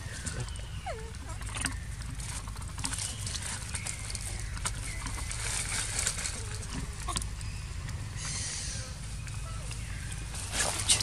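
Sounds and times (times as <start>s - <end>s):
outdoor background noise: 0.0s - 11.0s
dry leaves crackling and rustling: 2.0s - 11.0s.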